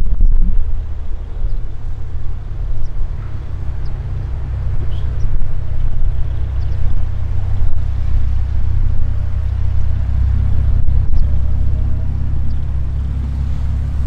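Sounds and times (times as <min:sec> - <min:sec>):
faint engine drone: 0:00.0 - 0:14.0
wind buffeting microphone: 0:00.0 - 0:14.0.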